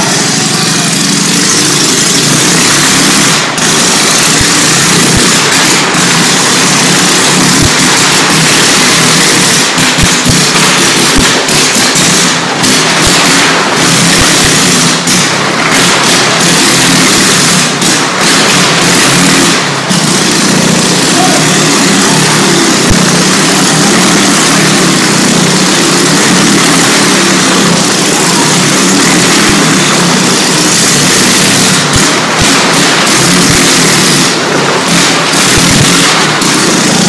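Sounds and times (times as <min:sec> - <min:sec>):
motorcycle engine running loudly: 0:00.0 - 0:37.0.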